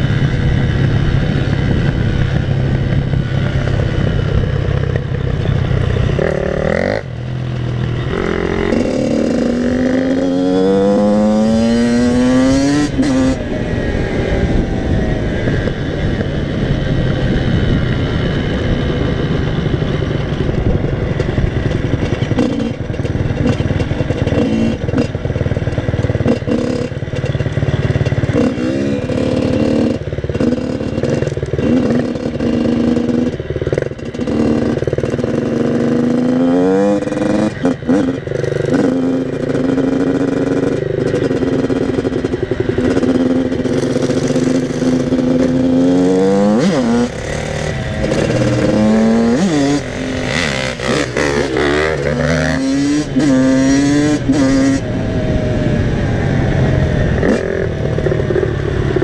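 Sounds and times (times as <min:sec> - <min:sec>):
dirt bike engine revving: 0:00.0 - 0:59.0
second dirt bike engine: 0:00.0 - 0:59.0.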